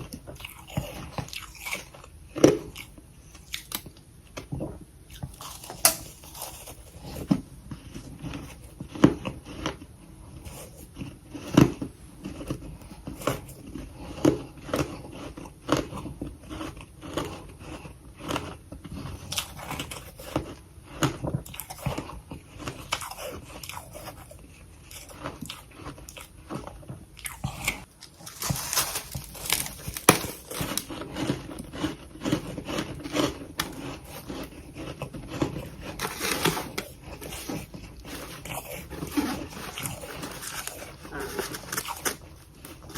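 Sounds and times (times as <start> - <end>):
chewing ice crunches: 5.2 - 42.9.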